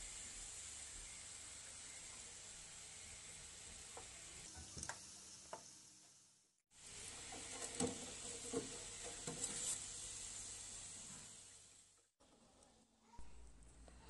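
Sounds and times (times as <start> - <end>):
almonds sizzling in oil: 0.0 - 12.1.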